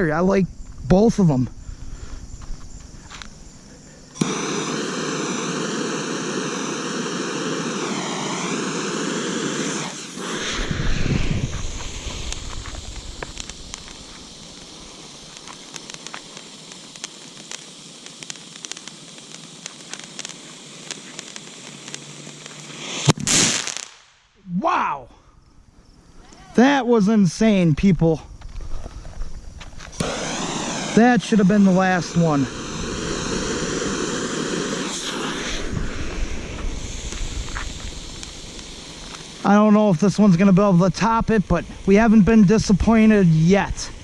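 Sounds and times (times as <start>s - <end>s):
firework fountain whistling hiss: 1.6s - 24.4s, 28.4s - 44.0s
firework crackle of small pops: 2.2s - 24.4s, 28.4s - 44.0s.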